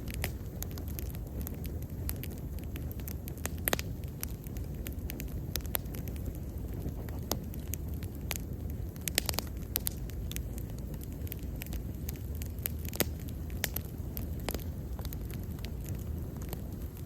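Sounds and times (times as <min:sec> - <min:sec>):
bonfire rumbling: 0:00.0 - 0:17.0
fire crackles and pops: 0:00.0 - 0:17.0.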